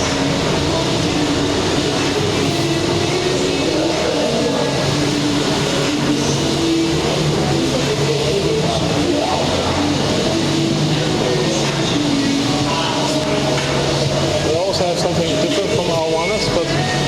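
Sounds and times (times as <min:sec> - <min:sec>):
busy market din: 0:00.0 - 0:17.0
music playing: 0:00.0 - 0:17.0.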